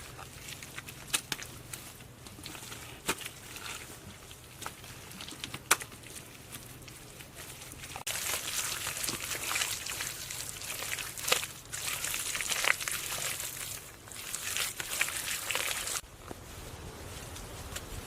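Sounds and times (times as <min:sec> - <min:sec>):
dry vegetation rustling and crackling: 0:00.0 - 0:18.0.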